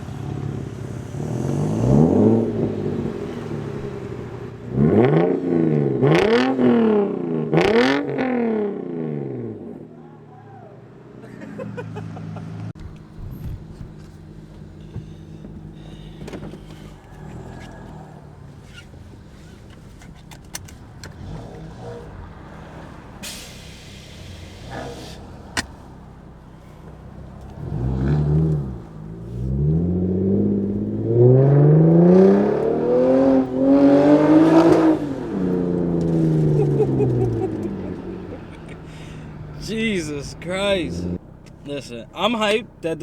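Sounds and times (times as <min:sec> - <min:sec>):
car engine idling and revving: 0:00.0 - 0:10.0, 0:10.7 - 0:43.0.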